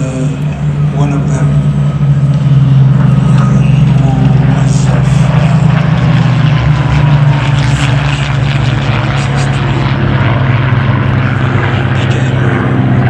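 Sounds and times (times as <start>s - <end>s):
aircraft engines droning: 0.0s - 13.0s.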